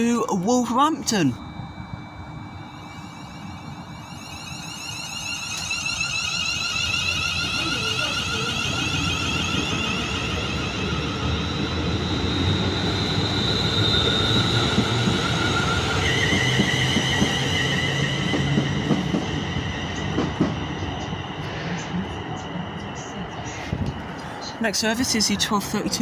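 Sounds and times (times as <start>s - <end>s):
electric train inverter whine: 0.0s - 26.0s
wheels rumbling on track: 3.1s - 26.0s.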